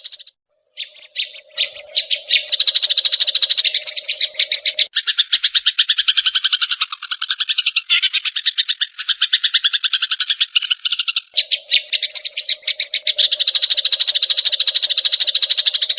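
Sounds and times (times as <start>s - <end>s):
sparrows chattering: 0.0s - 15.9s.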